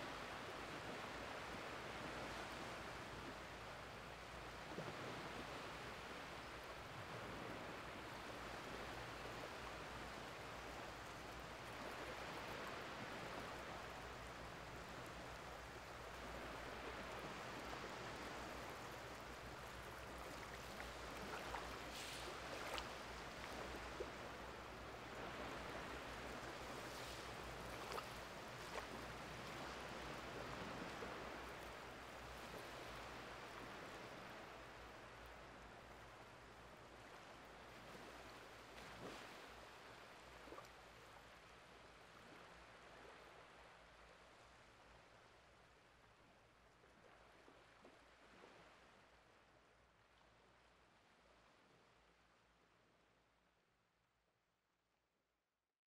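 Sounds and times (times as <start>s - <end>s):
small waves lapping on sand: 0.0s - 52.2s.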